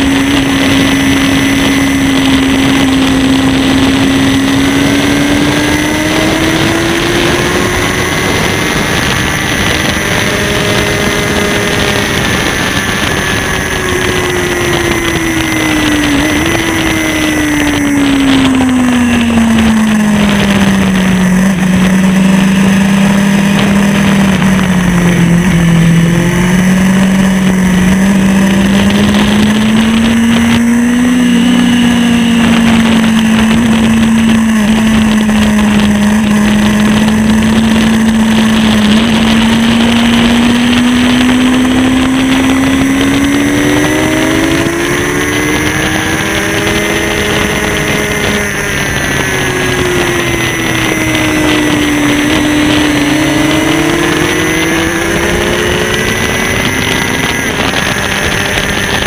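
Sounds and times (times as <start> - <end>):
motorcycle engine running hard: 0.0 - 59.0
wind noise: 0.0 - 59.0.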